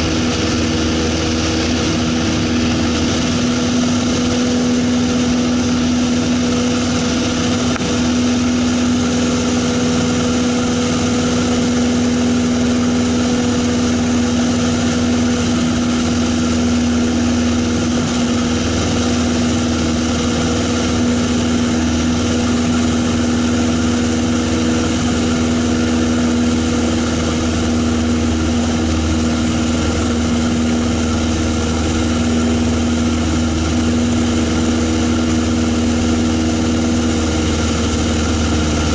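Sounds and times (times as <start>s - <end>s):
light airplane engine and propeller: 0.0s - 38.9s.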